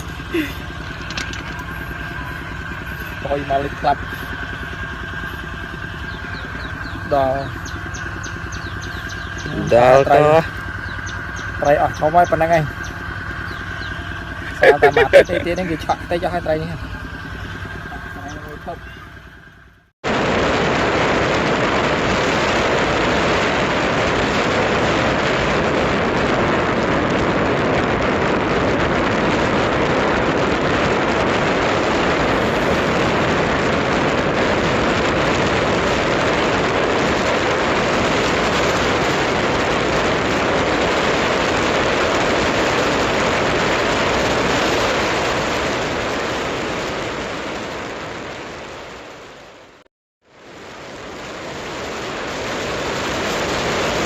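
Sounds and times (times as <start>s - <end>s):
loud steady rushing noise: 0.0s - 54.0s.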